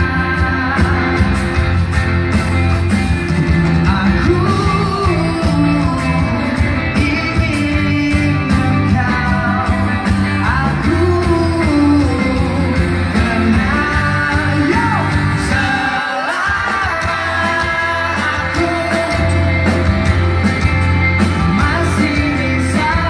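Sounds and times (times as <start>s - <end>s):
live pop rock band: 0.0s - 23.0s.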